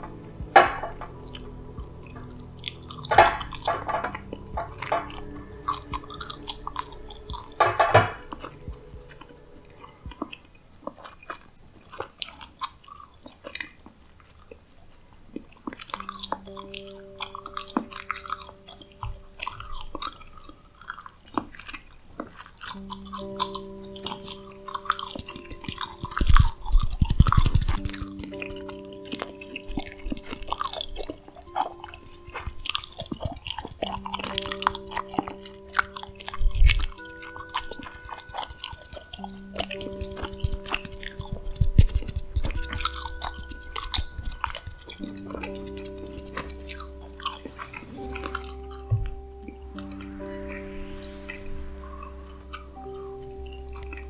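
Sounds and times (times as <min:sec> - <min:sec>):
soft sustained musical tone: 0:00.0 - 0:12.4, 0:15.3 - 0:54.0
gum chewing: 0:01.0 - 0:50.2.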